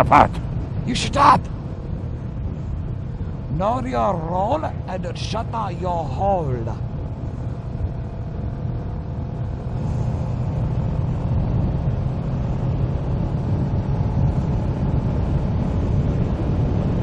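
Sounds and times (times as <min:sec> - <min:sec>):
motorcycle engine and road rumble: 0:00.0 - 0:17.0.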